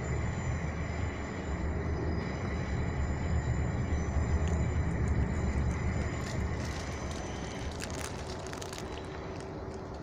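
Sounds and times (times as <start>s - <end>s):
faint high whine: 0.0s - 10.0s
train interior rumble: 0.0s - 10.0s.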